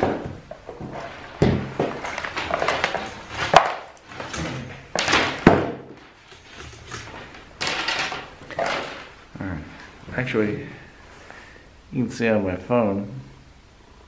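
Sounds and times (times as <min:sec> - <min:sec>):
wires rustling: 0:00.0 - 0:11.4.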